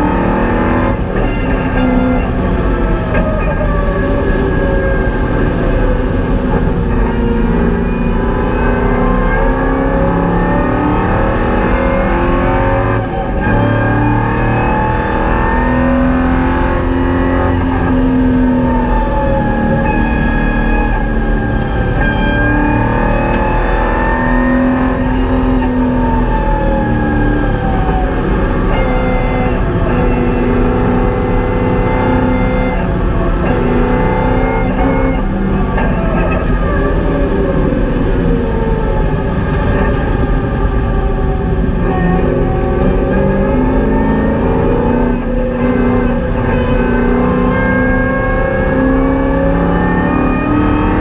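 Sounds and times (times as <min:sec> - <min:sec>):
engine revving from inside car: 0:00.0 - 0:51.0.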